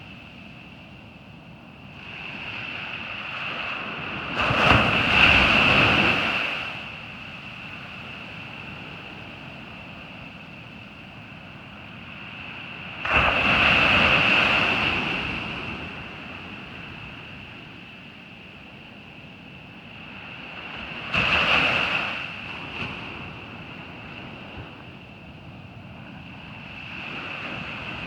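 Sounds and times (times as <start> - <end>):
ocean surf washing: 2.0 - 28.0.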